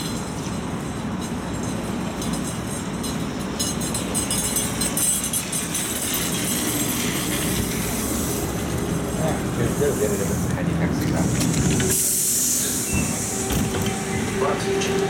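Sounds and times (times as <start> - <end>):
trolleybus pulling in: 0.0 - 15.0.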